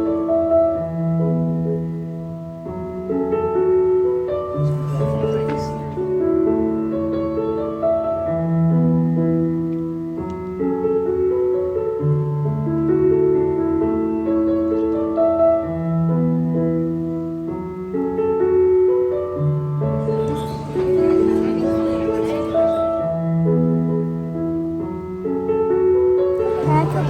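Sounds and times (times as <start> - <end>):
slow piano piece: 0.0 - 27.0.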